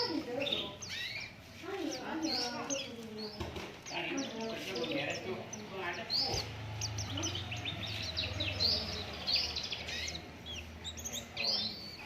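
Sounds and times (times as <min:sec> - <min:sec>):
songbird chirping and twittering: 0:00.0 - 0:12.0.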